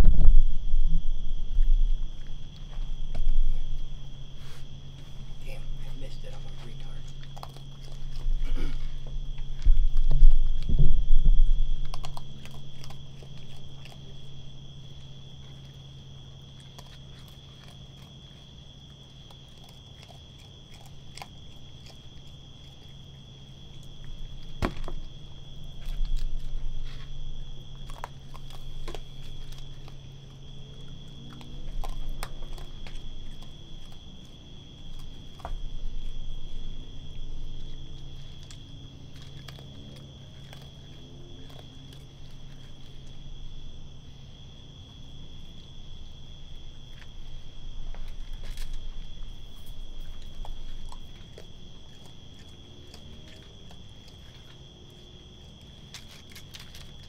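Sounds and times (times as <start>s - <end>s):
raccoon chewing and crunching food: 0.0s - 57.0s
steady low hum: 0.0s - 57.0s.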